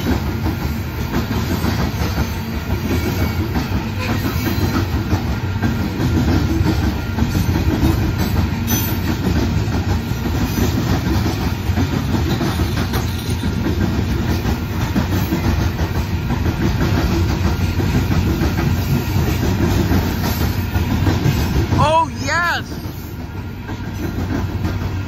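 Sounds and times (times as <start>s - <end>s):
steel wheels clattering on rails: 0.0s - 25.0s.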